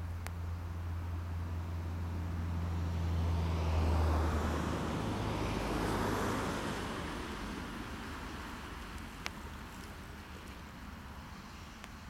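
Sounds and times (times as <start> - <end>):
low engine hum: 0.0 - 12.0
road traffic passing: 0.0 - 12.0.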